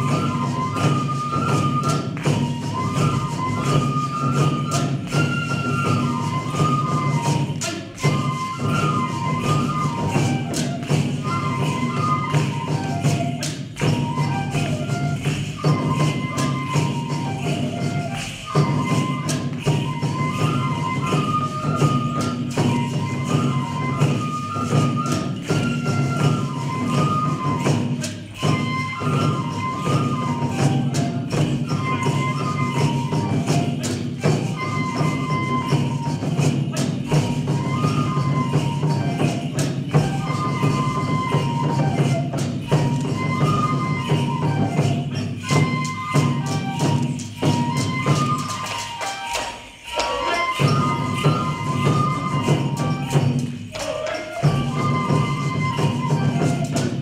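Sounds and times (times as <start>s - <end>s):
high flute-like melody: 0.0s - 57.0s
sharp percussive strikes: 0.0s - 57.0s
steady drumming: 0.0s - 57.0s.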